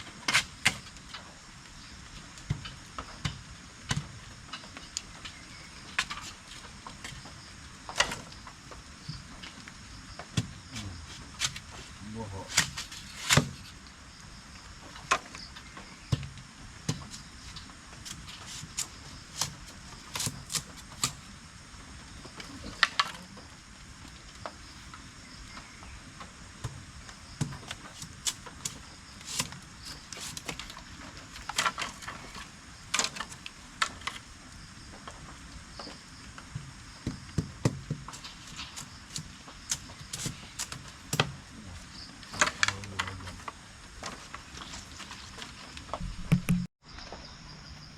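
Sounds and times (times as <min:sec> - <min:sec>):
night insects droning: 0:00.0 - 0:47.9.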